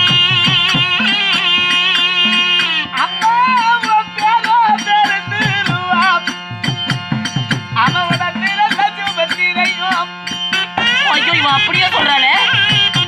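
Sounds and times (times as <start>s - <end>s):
wavering melody: 0.0s - 13.0s.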